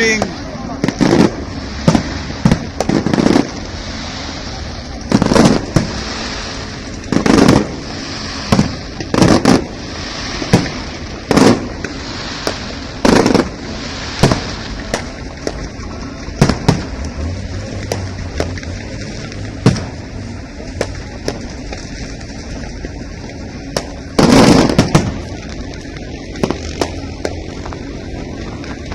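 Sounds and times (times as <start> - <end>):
background hiss: 0.0 - 28.9
fireworks bangs and pops: 0.0 - 28.9.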